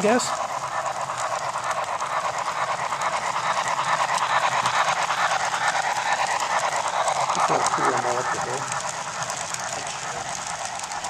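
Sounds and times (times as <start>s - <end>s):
model train wheels rattling on rail: 0.0s - 11.0s.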